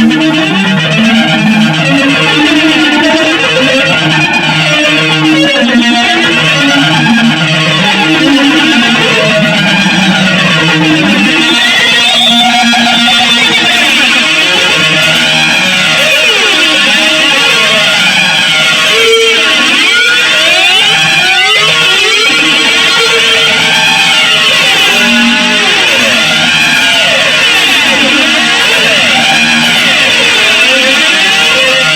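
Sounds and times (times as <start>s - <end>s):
electric guitar noise jam: 0.0s - 31.9s.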